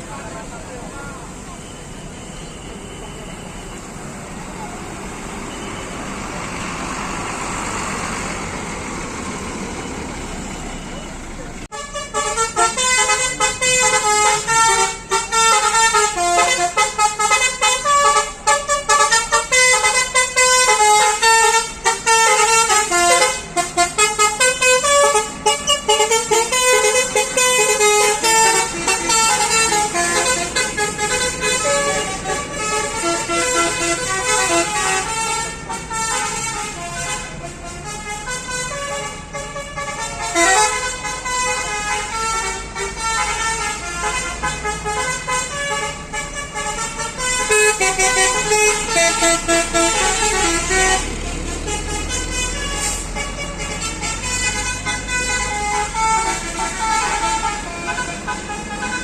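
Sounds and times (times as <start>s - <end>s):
musical bus horns playing tunes: 4.8s - 59.0s.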